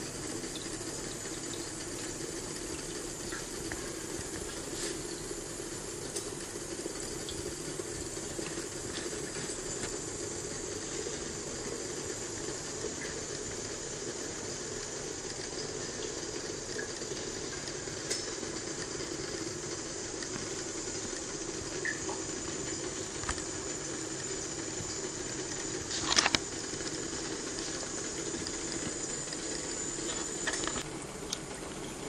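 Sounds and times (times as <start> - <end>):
distillation still hissing: 0.0 - 32.0.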